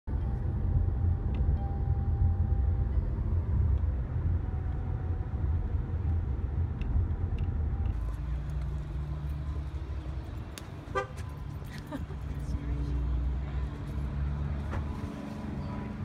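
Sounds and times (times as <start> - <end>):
car engine and tyre rumble: 0.1 - 16.0
steady low hum outdoors: 0.1 - 16.0.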